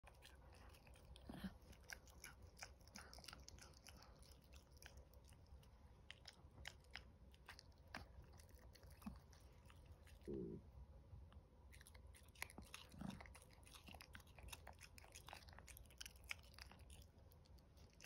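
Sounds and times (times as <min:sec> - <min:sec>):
puppy teeth crunching on chew: 0:00.0 - 0:10.5, 0:11.7 - 0:18.0.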